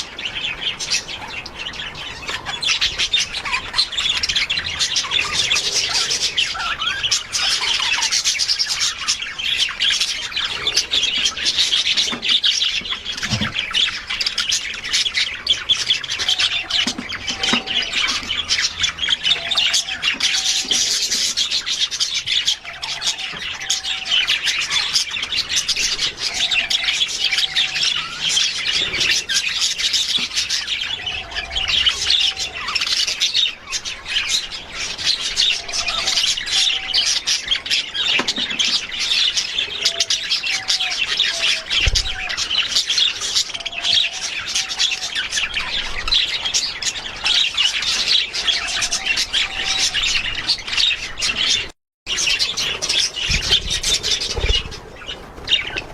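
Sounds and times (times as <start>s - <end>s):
budgerigars chattering and squawking: 0.0s - 55.9s.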